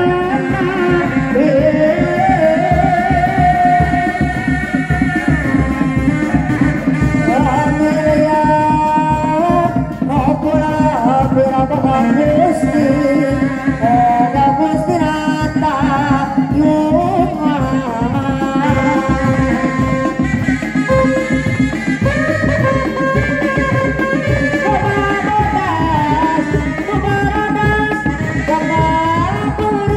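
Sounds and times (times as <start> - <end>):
drums beating fast rhythm: 0.0 - 29.9
ornamented melody line: 0.0 - 29.9.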